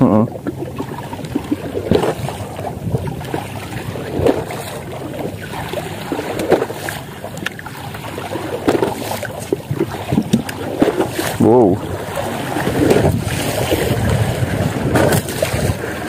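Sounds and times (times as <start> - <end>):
water splashing against boat hull: 0.0 - 16.0.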